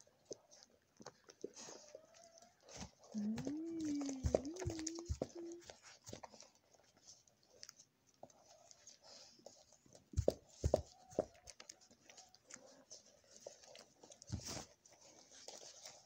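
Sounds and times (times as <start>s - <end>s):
puppies suckling: 0.0s - 16.0s.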